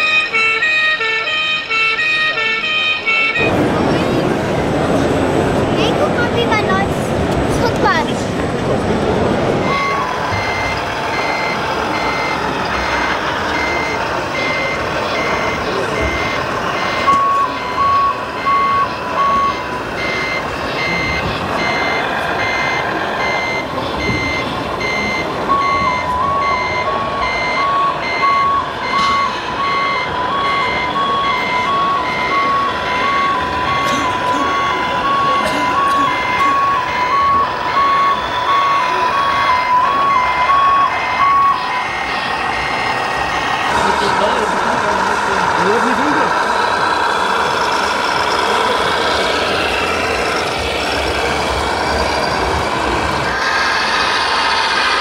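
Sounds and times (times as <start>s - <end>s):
electronic reversing beeper: 9.6s - 55.0s.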